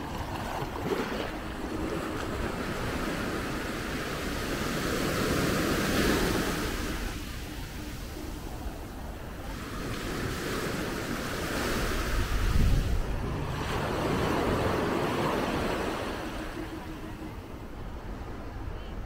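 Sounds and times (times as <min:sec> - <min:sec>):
small waves breaking on sand: 0:00.0 - 0:18.6
wind buffeting microphone: 0:00.0 - 0:19.0.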